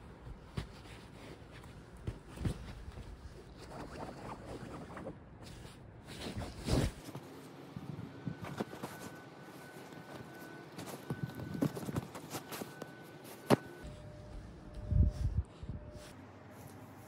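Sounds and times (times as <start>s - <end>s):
fabric rustling and scuffling: 0.2s - 17.0s.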